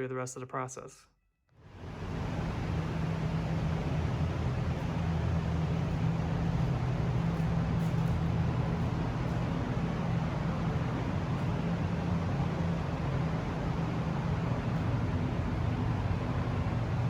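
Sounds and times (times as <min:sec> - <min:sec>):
mechanical hum: 0:01.6 - 0:17.0.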